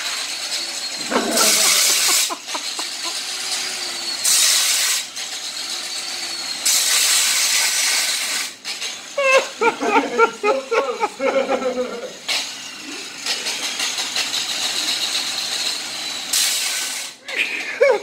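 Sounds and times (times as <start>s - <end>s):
angle grinder whine: 0.0s - 18.0s
grinder disc grinding metal: 0.0s - 18.0s.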